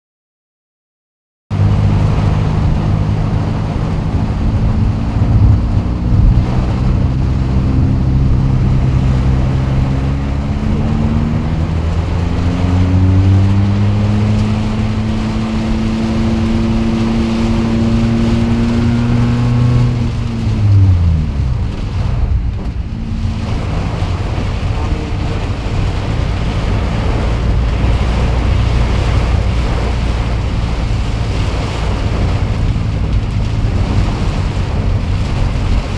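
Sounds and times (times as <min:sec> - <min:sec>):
heavy rain: 0:01.5 - 0:35.9
vehicle engine: 0:01.5 - 0:35.9.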